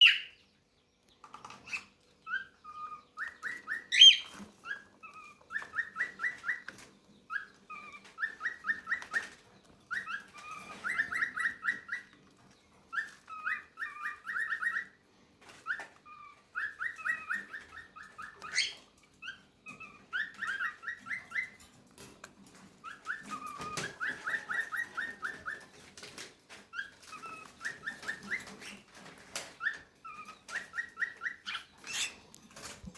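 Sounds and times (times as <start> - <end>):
baby birds chirping: 0.0 - 32.9.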